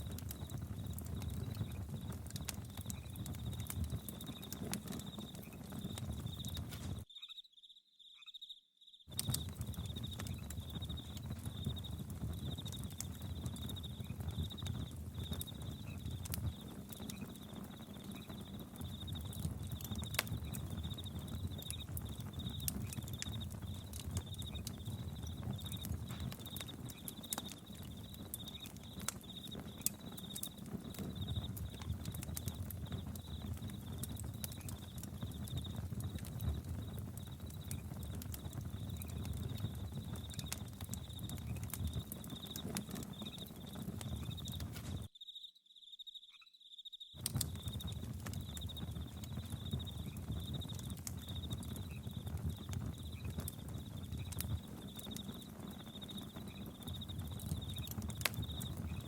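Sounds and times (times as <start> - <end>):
campfire crackling and popping: 0.0 - 7.1, 9.1 - 45.1, 47.2 - 59.0
crickets chirping: 0.0 - 16.7, 17.5 - 59.0.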